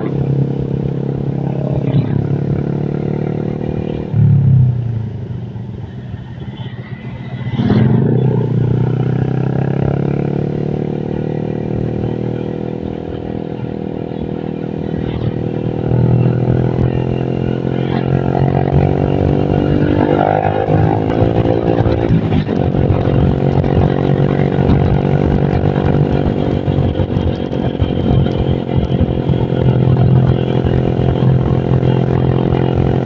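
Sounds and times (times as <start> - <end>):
scooter engine droning: 0.0 - 33.0.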